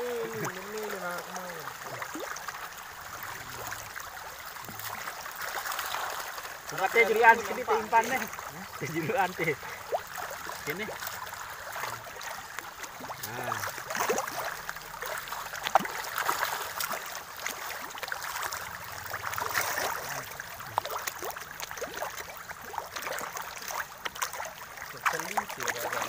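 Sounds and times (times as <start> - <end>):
fish splashing at water surface: 0.0 - 26.0
water slaps: 4.6 - 26.0.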